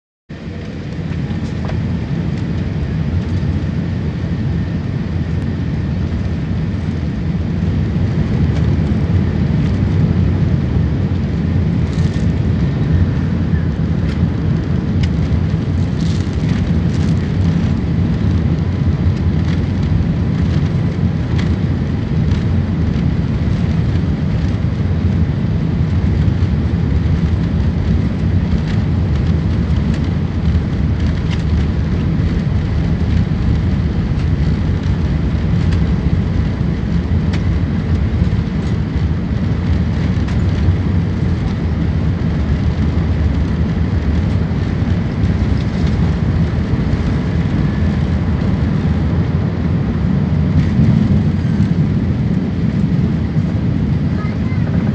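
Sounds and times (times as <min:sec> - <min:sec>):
jet engines and wheels rumbling: 0:00.3 - 0:54.9.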